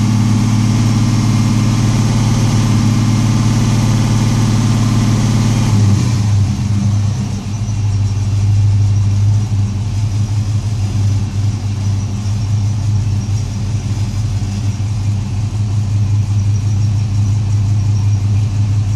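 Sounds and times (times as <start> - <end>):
engine idling with misfire: 0.0 - 18.9.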